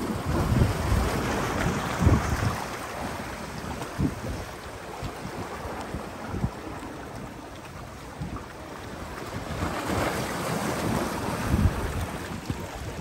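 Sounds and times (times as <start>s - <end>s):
wind buffeting microphone: 0.0s - 7.3s, 7.9s - 13.0s
waves washing against rocks: 0.0s - 13.0s.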